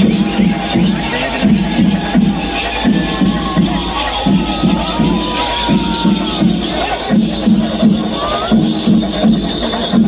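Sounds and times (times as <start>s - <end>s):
crowd cheering: 0.0s - 9.7s
percussion music with low beat: 0.0s - 10.0s.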